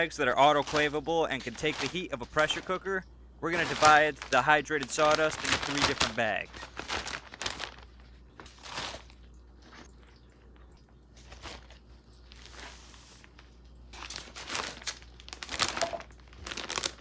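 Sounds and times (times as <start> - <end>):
plastic bags crinkling: 0.0 - 10.0, 11.2 - 17.0.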